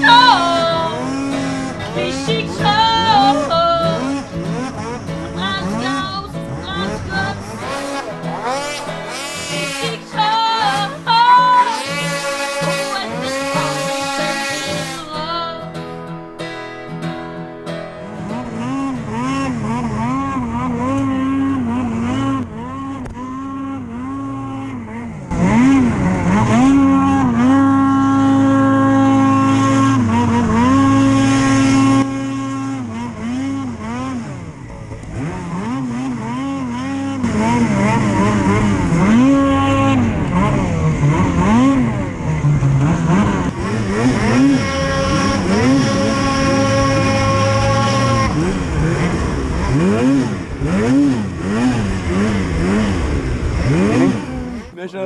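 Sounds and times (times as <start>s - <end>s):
snowmobile engines revving: 0.0s - 16.6s, 18.0s - 55.0s.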